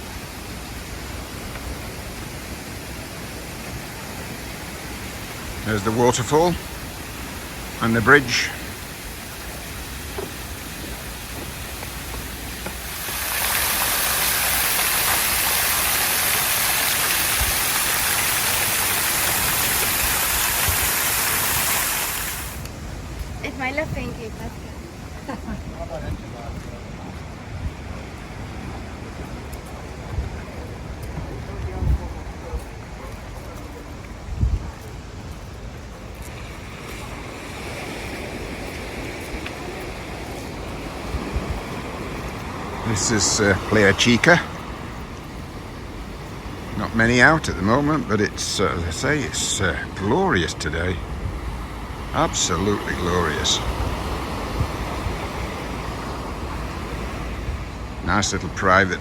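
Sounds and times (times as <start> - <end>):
wind on microphone: 0.0 - 48.4, 49.0 - 59.0
sea surf washing onto beach: 0.0 - 59.0
waterfall rushing water: 0.0 - 59.0.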